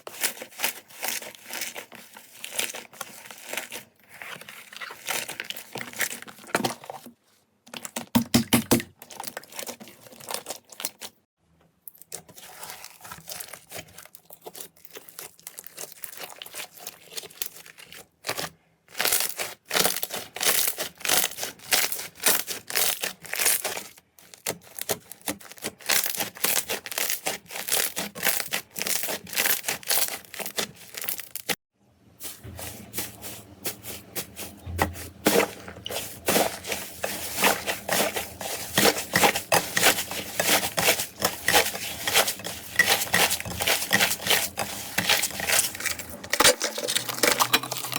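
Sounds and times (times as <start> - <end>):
slime squishing and crackling: 0.0 - 7.1, 7.7 - 11.2, 11.8 - 31.6, 32.4 - 47.9.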